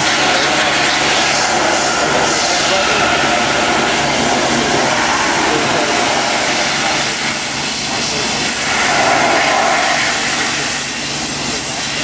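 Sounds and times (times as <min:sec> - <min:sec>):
pressure washer spraying metal: 0:00.0 - 0:12.0.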